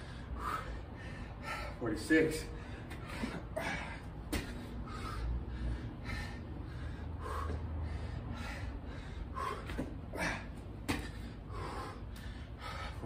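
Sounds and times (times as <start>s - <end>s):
man gasping for breath: 2.5s - 13.0s.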